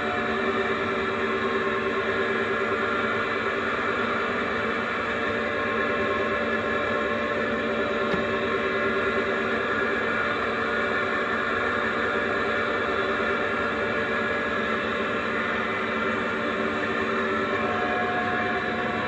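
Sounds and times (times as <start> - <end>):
lathe hum and whine: 0.0 - 19.0.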